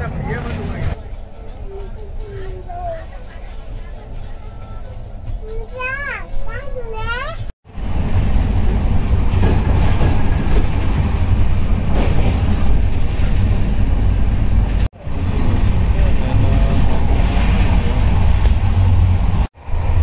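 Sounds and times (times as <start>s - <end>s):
train running heard from inside: 0.0s - 20.0s.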